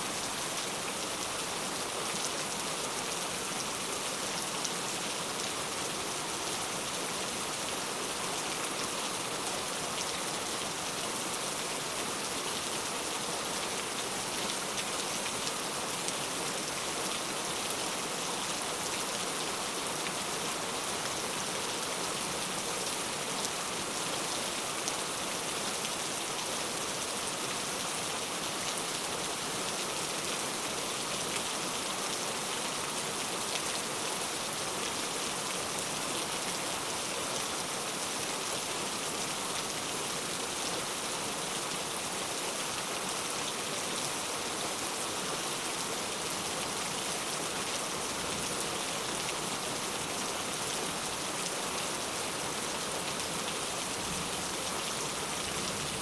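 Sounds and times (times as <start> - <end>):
rain pattering on a surface: 0.1 - 56.0.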